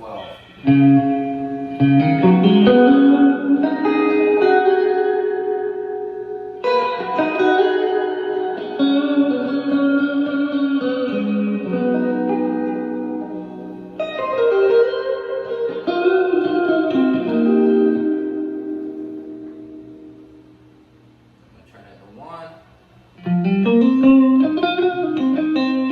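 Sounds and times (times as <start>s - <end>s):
electric guitar chords with reverb: 0.5s - 21.4s, 23.2s - 25.9s.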